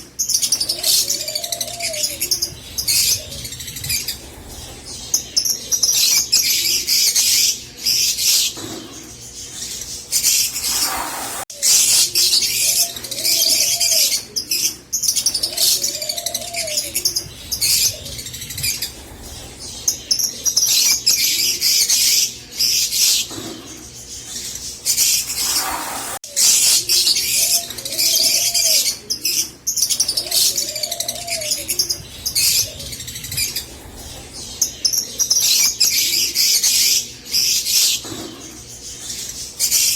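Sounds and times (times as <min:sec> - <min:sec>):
lovebirds chattering and chirping: 0:00.0 - 0:39.9.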